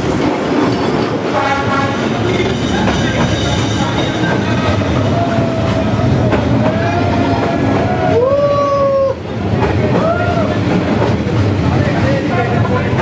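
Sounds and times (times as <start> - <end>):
train carriages rumbling and rattling: 0.0 - 13.0.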